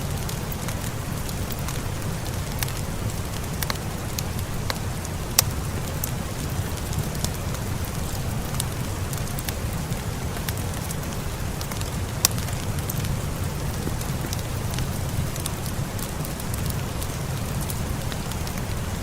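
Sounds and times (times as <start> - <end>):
fire crackling: 0.0 - 19.0
steady rain: 0.0 - 19.0.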